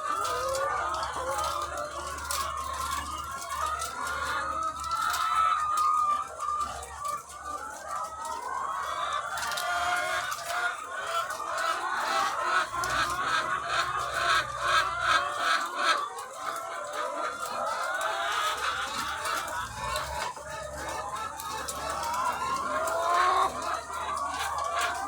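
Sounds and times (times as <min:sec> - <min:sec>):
hens clucking and calling: 0:00.0 - 0:25.0.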